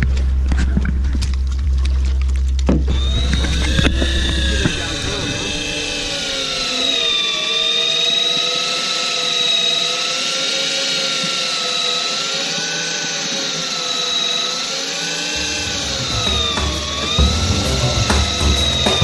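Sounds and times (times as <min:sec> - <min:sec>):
electric fishing reel motor whining: 0:02.9 - 0:19.0.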